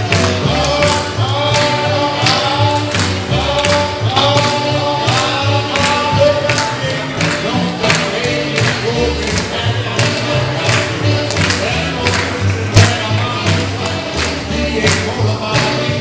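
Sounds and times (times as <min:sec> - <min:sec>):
dance music with singing: 0:00.0 - 0:16.0.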